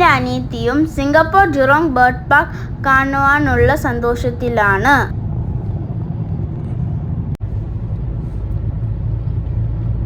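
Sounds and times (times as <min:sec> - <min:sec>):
vehicle road rumble: 0:00.0 - 0:10.0.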